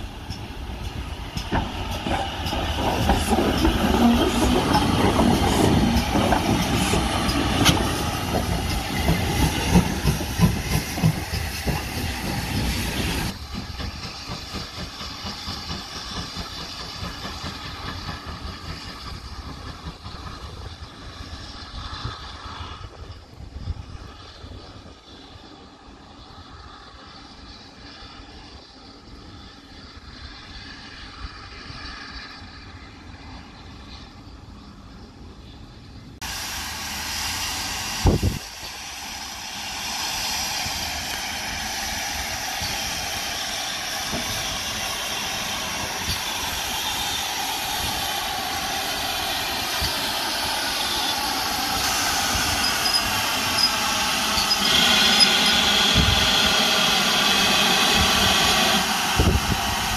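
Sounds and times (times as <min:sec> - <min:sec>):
steam locomotive running: 0:00.0 - 0:59.9.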